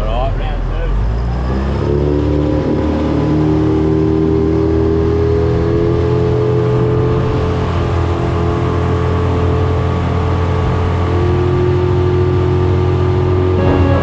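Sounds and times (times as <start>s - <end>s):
outboard motor running: 2.7s - 14.0s.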